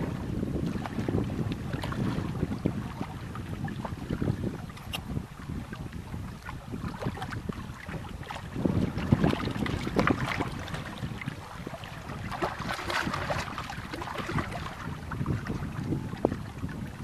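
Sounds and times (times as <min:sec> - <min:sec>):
waves slapping against boat: 0:00.0 - 0:17.0
wind buffeting microphone: 0:00.0 - 0:17.0.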